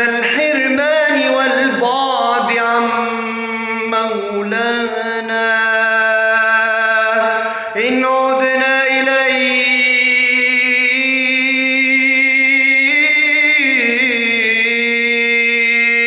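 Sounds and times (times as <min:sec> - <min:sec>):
man chanting a long vowel: 0:00.0 - 0:16.0.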